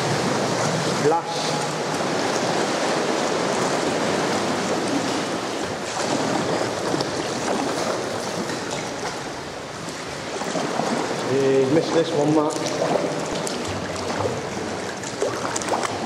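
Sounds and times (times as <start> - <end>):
water sloshing against rock walls: 0.0 - 16.0.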